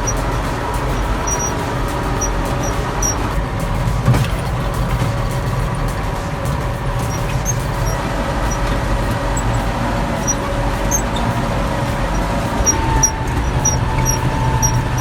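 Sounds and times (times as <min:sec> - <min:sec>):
bulldozer diesel engine running: 0:00.0 - 0:15.0
high-pitched squeaks: 0:00.0 - 0:15.0.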